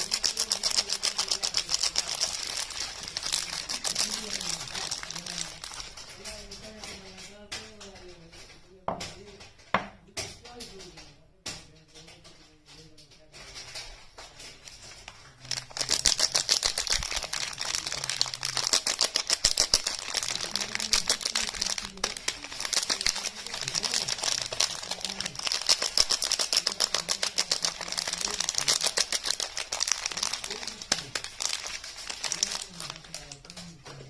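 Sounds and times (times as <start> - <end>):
packaging crackling: 0.0 - 8.4, 12.2 - 34.0.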